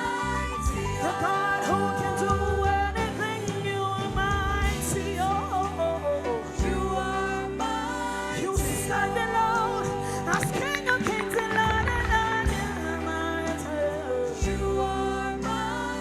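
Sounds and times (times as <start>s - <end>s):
band with bass and keyboard: 0.0s - 16.0s
worship team singing: 0.0s - 16.0s.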